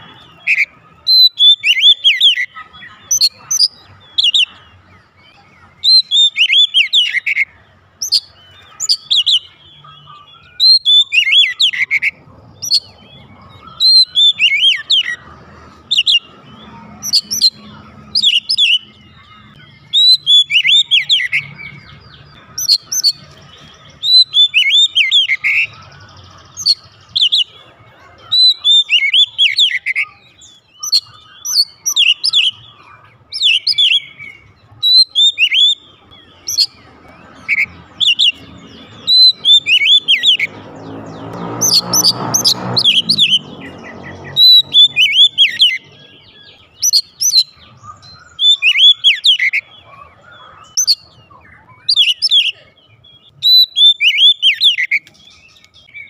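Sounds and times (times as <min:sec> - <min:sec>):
bird singing whistles and chirps: 0:00.0 - 0:56.0.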